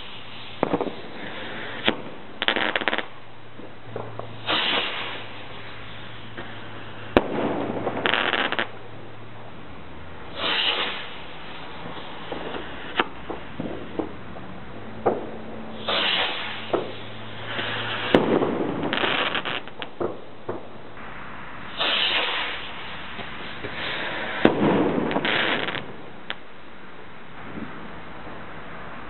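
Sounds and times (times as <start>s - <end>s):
fireworks bangs: 0.0s - 9.3s, 10.2s - 26.5s
crackling hiss of fireworks: 0.0s - 29.0s.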